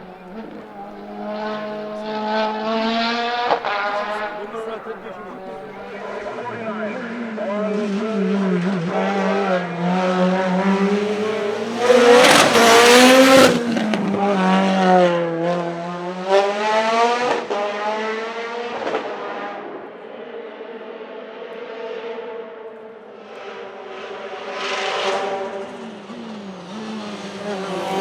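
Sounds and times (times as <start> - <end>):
turbo car engine at full throttle: 0.0 - 28.0.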